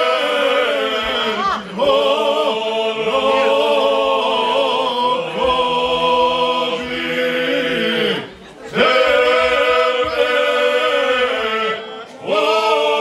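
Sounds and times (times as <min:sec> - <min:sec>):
men singing in close harmony: 0:00.0 - 0:13.0.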